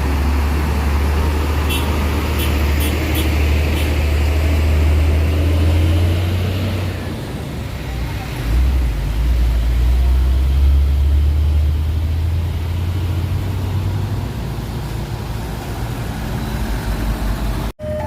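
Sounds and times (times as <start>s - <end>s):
heavy vehicle engine rumble: 0.0s - 18.0s
traffic noise: 0.0s - 18.0s.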